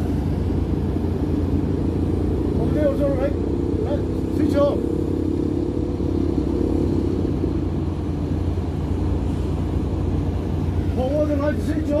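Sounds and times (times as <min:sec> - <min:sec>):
pitched hum: 0:00.0 - 0:12.0
ship machinery droning: 0:00.0 - 0:12.0.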